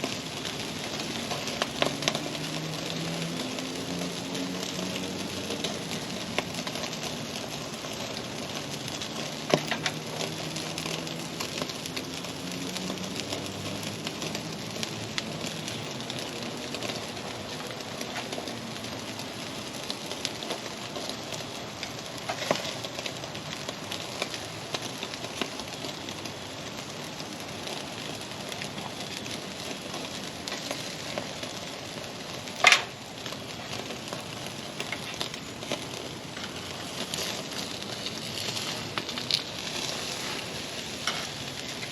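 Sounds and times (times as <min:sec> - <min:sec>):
fat crackling and popping: 0:00.0 - 0:41.9
steak sizzling on a grill: 0:00.0 - 0:41.9.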